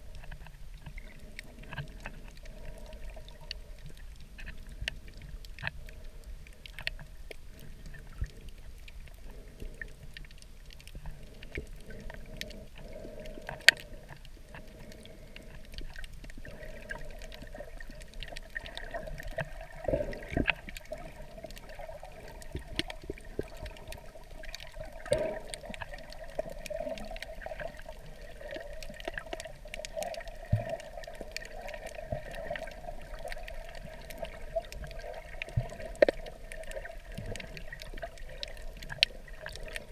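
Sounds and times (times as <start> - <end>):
underwater sloshing and gurgling: 0.0 - 39.9
sharp clicks underwater: 0.1 - 39.9.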